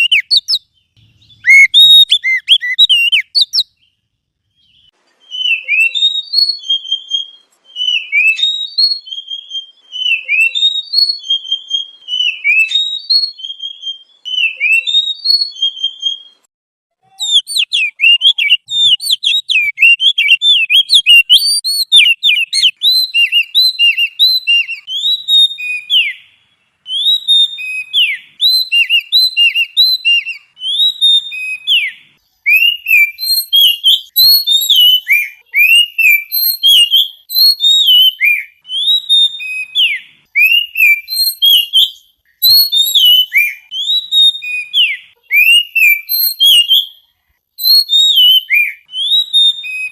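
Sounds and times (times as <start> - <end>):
songbird whistling song: 0.0 - 49.9.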